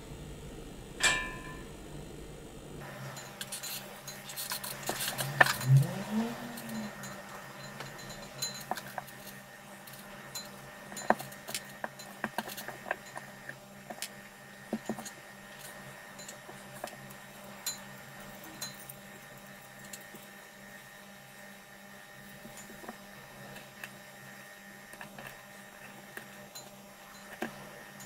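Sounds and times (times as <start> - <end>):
small parts clicking and tapping: 3.1 - 20.8, 22.2 - 28.0.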